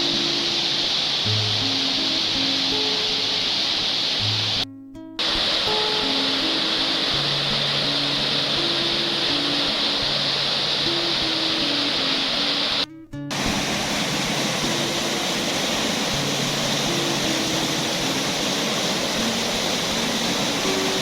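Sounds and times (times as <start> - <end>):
waterfall roaring: 0.0 - 4.6, 5.2 - 21.0
slow background music: 0.0 - 21.0.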